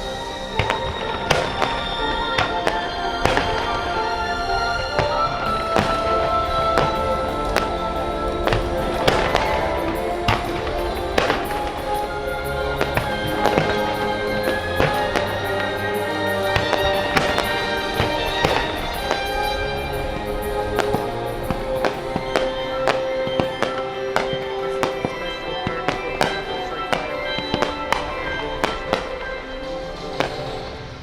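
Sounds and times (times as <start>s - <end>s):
fireworks bursting: 0.0s - 31.0s
loud music: 0.0s - 31.0s.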